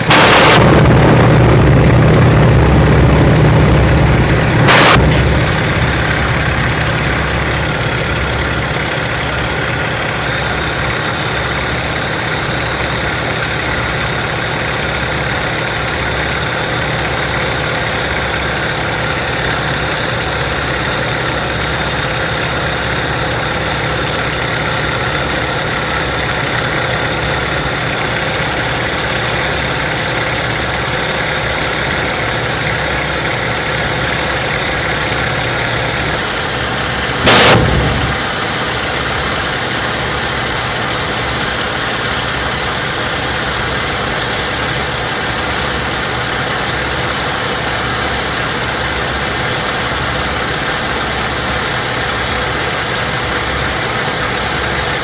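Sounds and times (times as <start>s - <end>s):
radial aircraft engine running: 0.0s - 55.0s.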